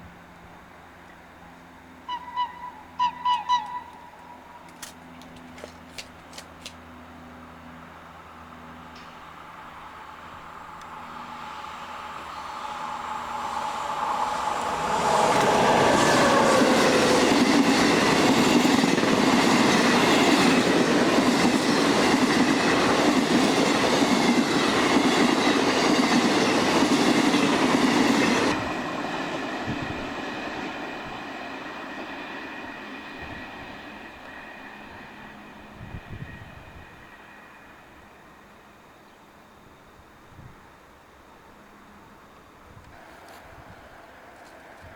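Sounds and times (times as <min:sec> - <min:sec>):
train passing: 0:00.0 - 0:44.9.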